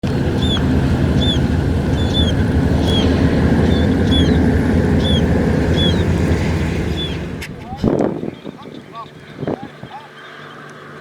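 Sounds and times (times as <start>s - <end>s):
engine humming: 0.0s - 9.4s.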